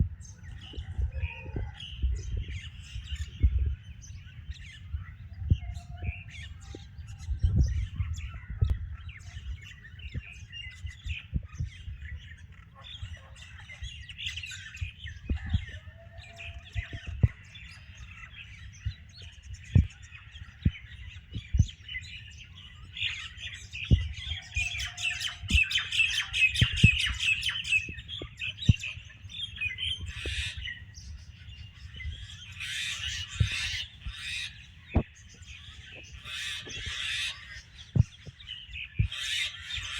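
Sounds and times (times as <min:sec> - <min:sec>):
birds chattering and squawking: 0:00.0 - 0:39.9.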